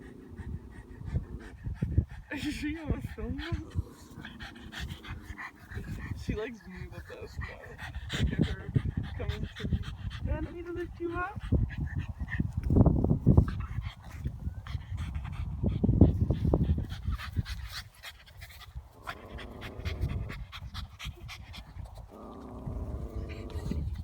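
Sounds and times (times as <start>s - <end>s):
puppy panting: 0.0s - 24.0s.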